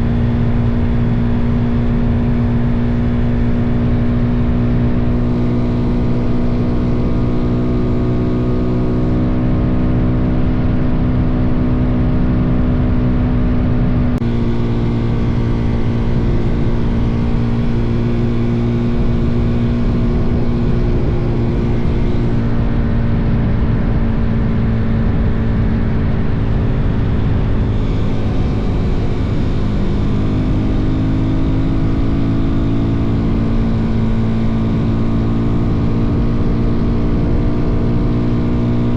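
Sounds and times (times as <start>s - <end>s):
motorcycle engine cruising: 0.0s - 38.9s
wind rushing over microphone: 0.0s - 38.9s.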